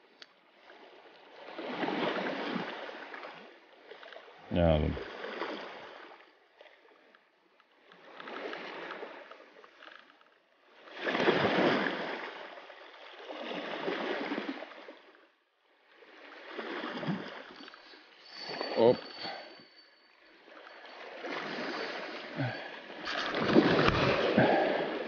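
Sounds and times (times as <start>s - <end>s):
small waves lapping on pebbles: 0.0s - 4.4s, 5.0s - 25.0s.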